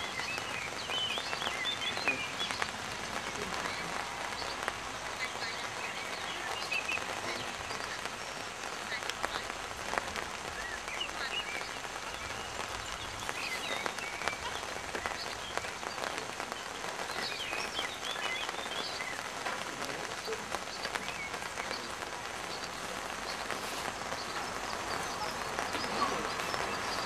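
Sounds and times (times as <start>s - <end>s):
light rain pattering: 0.0s - 27.0s.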